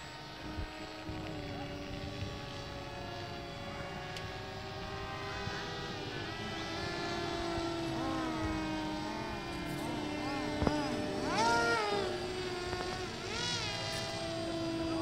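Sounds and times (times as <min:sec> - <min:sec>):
model airplane motors whining: 0:00.0 - 0:15.0.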